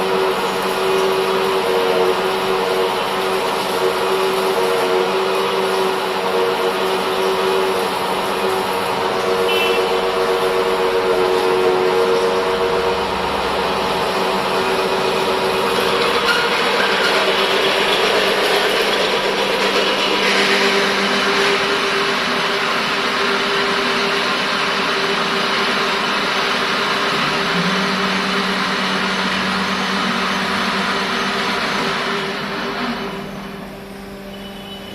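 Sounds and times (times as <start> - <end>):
hydraulic drilling machine running: 0.0 - 34.9.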